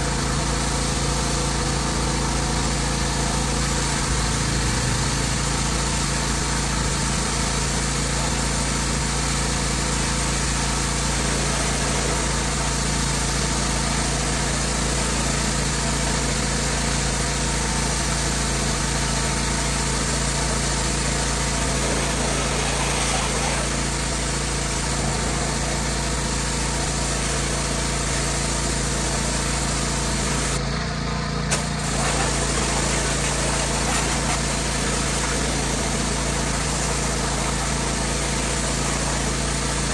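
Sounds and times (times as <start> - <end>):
pressure washer engine running: 0.0 - 39.9
water spray hissing on siding: 0.1 - 30.6, 31.5 - 39.9.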